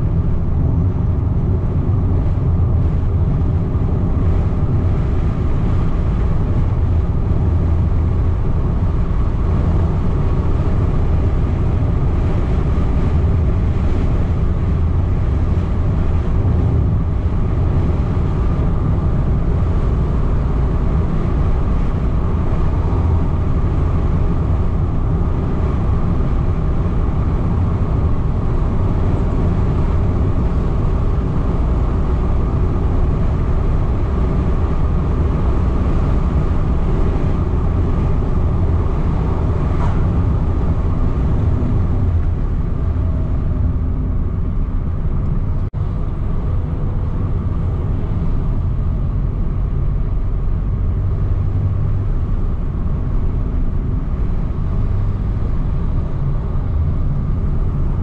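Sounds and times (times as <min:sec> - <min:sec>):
car engine: 0:00.0 - 0:58.0
tyre and road noise: 0:00.0 - 0:58.0.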